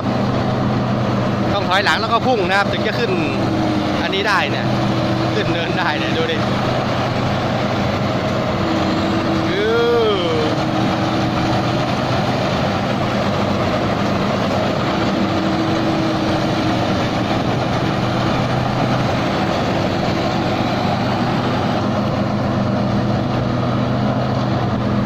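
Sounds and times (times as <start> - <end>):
combine harvester diesel engine: 0.0 - 25.0.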